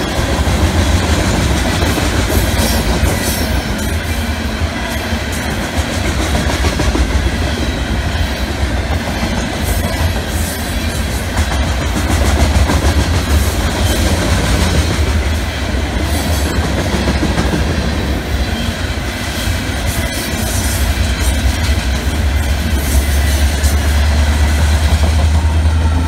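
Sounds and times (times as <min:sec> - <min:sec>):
freight wagons rumbling: 0:00.0 - 0:26.0.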